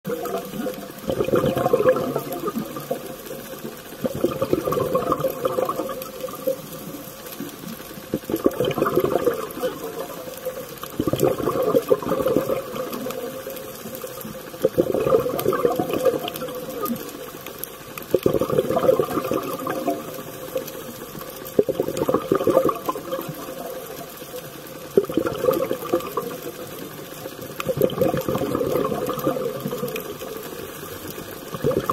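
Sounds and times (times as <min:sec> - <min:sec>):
underwater exhaled air bubbling: 0:00.1 - 0:31.9.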